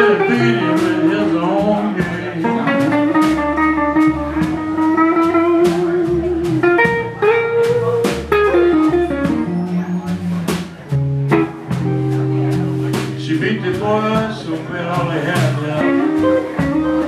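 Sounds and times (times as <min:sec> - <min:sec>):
drums and cymbals: 0:00.0 - 0:17.0
electric guitar bending notes: 0:00.0 - 0:17.0
plucked upright bass: 0:00.0 - 0:17.0.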